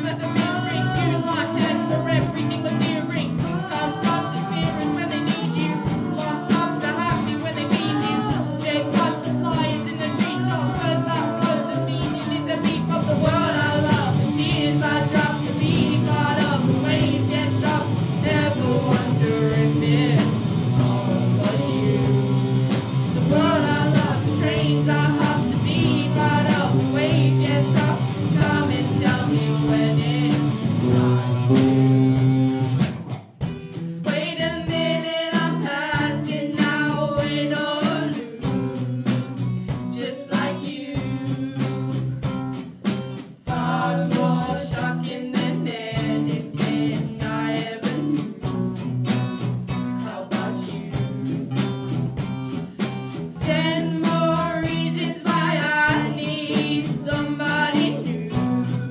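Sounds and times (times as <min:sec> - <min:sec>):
young voices singing: 0:00.0 - 0:32.7, 0:34.0 - 0:51.9, 0:52.8 - 0:58.9
rock band playing live: 0:00.0 - 0:58.9.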